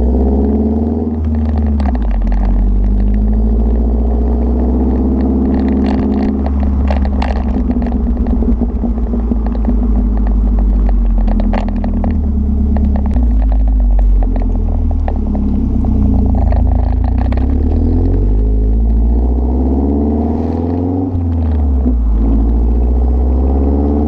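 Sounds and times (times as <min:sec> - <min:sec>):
deep engine exhaust rumble: 0:00.0 - 0:24.0.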